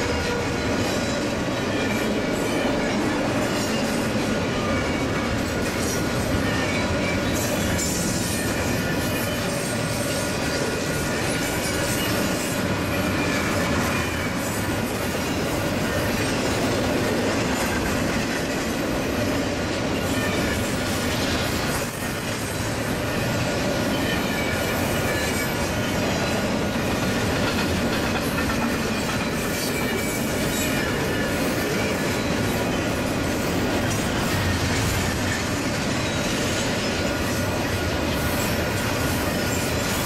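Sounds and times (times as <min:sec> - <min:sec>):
train wheels clacking over rail joints: 0:00.0 - 0:40.0.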